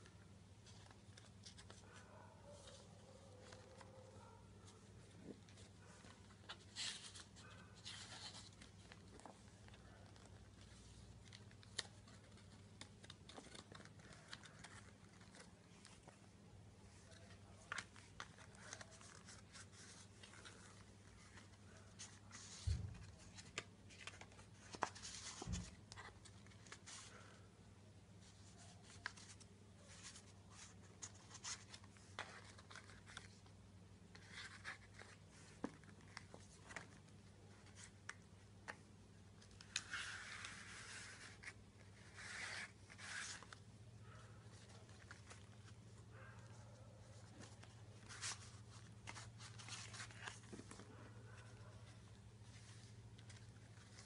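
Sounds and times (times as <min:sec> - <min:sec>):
paper pages rustling: 0:00.0 - 0:16.3, 0:16.9 - 0:27.5, 0:28.2 - 0:33.5, 0:34.1 - 0:54.0.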